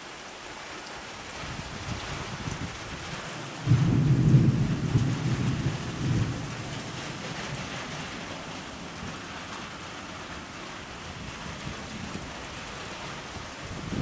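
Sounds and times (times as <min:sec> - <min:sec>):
steady rain: 0:00.0 - 0:14.0
thunder clap and rumble: 0:01.5 - 0:14.0.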